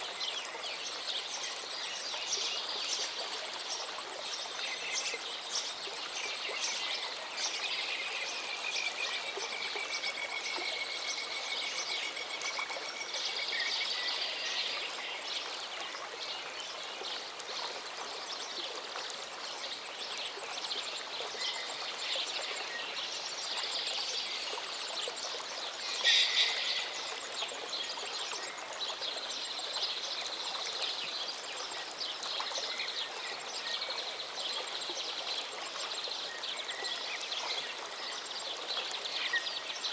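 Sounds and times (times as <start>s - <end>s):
songbirds singing and chirping: 0.2s - 39.9s.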